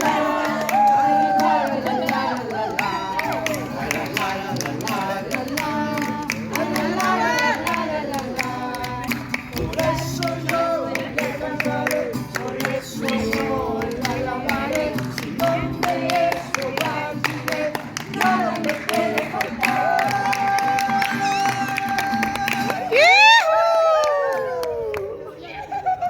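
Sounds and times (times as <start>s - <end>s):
people singing: 0.0s - 22.6s
hand clapping: 0.0s - 23.0s
guitar: 0.0s - 25.7s.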